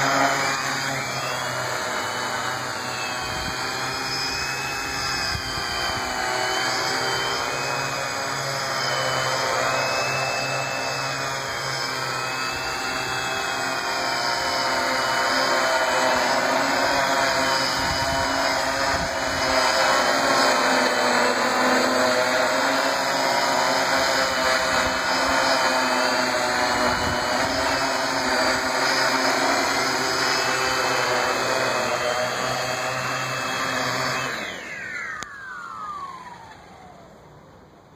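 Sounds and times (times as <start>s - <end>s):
drone propellers buzzing: 0.0s - 37.9s
motors spinning down whine: 0.0s - 37.9s.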